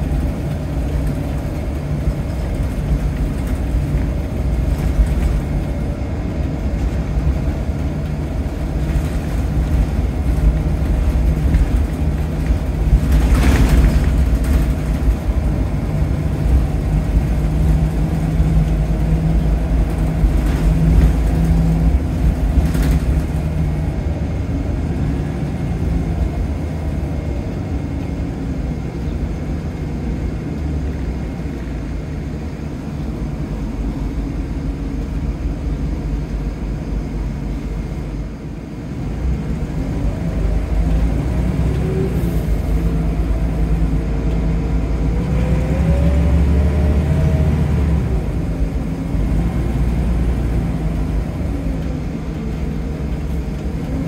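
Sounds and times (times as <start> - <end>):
bus diesel engine drone: 0.0 - 54.0
road and body noise: 0.0 - 54.0.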